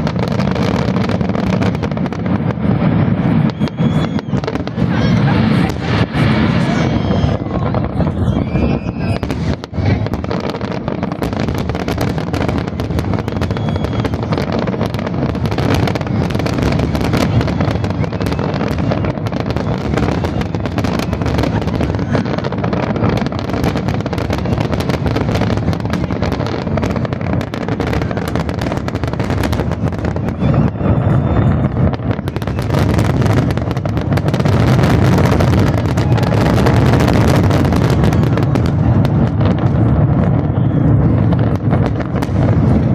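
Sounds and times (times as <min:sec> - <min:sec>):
fireworks bursts and crackles: 0:00.0 - 0:42.9.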